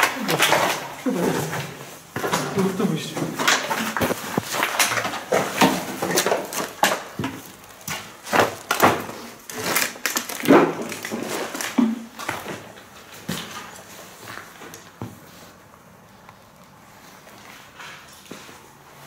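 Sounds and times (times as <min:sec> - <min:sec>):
footsteps over rubble: 0:00.0 - 0:15.8.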